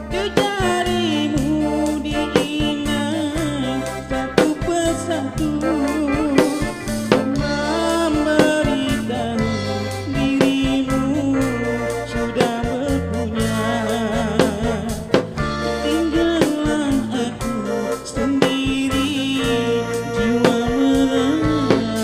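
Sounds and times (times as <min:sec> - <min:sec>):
live pop band instrumental: 0:00.0 - 0:22.0.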